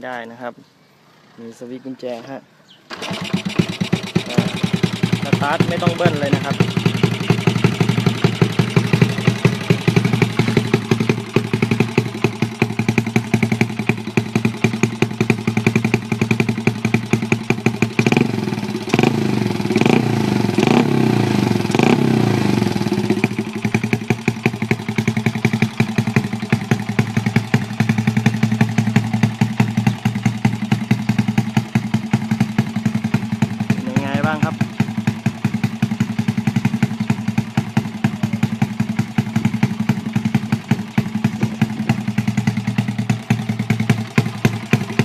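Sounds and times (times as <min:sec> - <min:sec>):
motorcycle engine idling and revving: 0:02.9 - 0:45.0.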